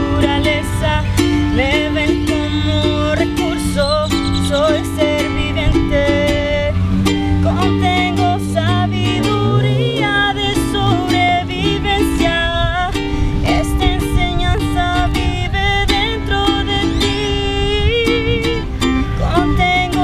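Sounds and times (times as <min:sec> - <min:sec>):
person singing: 0:00.0 - 0:20.0
strummed ukulele: 0:00.0 - 0:20.0.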